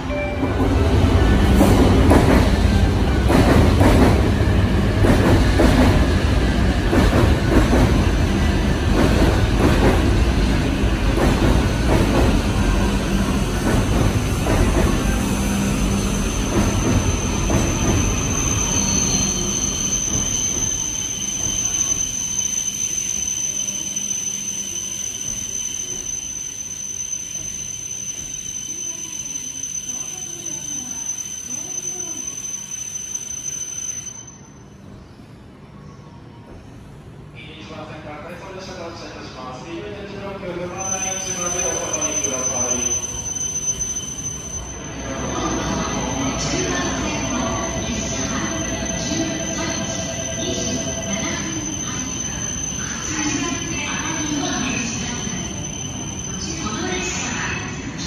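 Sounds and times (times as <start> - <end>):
train rumble and rail noise: 0.0 - 58.0.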